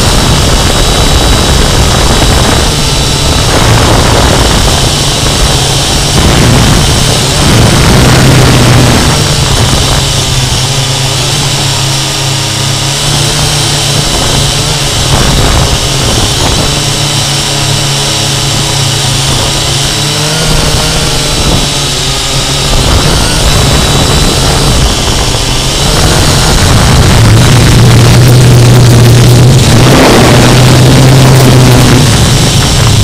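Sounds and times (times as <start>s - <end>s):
drone motors buzzing: 0.0s - 33.0s.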